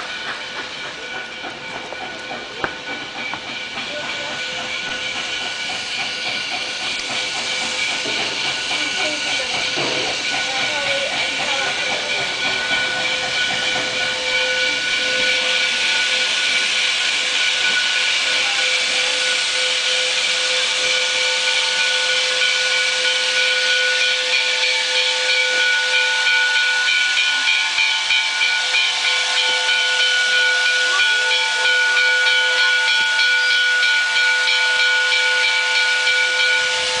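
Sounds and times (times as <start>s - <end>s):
locomotive steam hissing: 0.0s - 37.0s.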